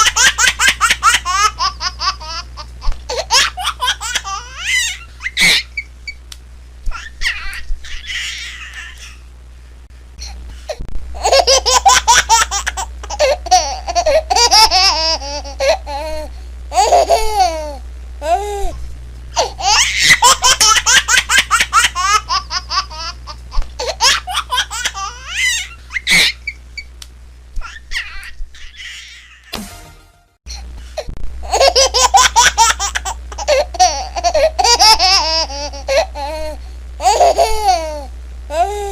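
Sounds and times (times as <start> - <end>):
baby laughing: 0.0 - 5.9, 6.9 - 9.2, 11.2 - 18.4, 19.4 - 26.6, 27.6 - 29.5, 31.4 - 38.7.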